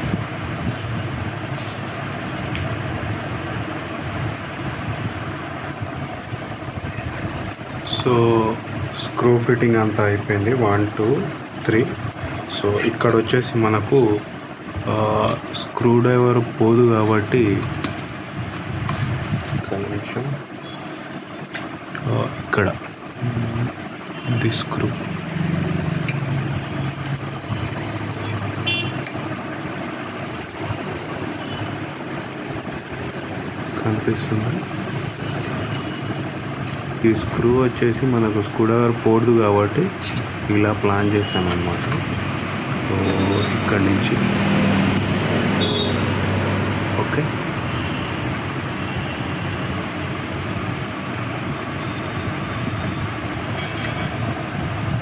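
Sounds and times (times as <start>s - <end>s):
low rumbling background noise: 0.0s - 55.0s
road traffic noise: 0.0s - 55.0s.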